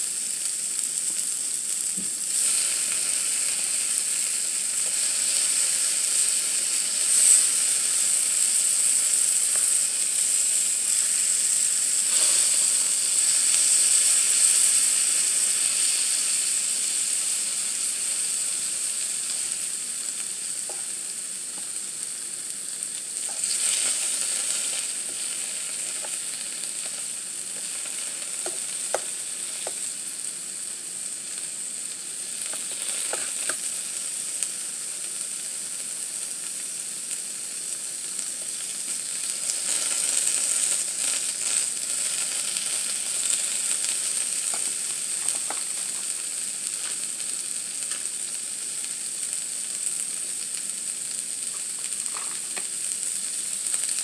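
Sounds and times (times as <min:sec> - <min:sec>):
food sizzling on grill pan: 0:00.0 - 0:54.0.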